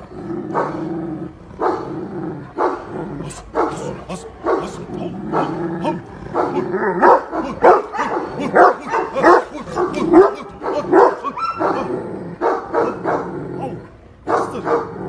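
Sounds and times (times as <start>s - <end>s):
large dog barking deeply: 0.0s - 15.0s.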